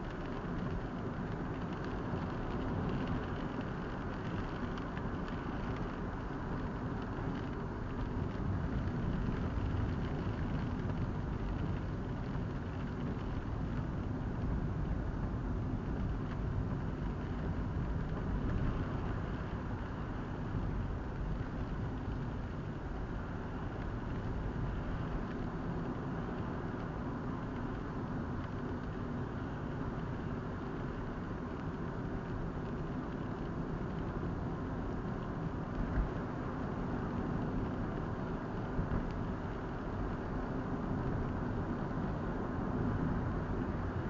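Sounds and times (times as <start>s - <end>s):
tyres on wet road: 0.0s - 44.0s.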